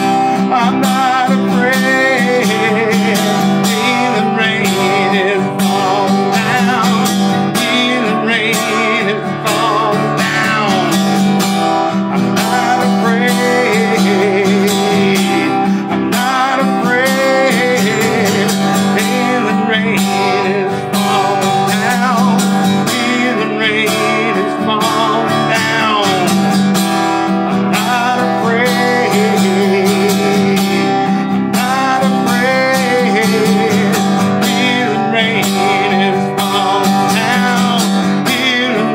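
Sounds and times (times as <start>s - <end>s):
acoustic guitar: 0.0s - 38.9s
man singing: 0.0s - 38.9s.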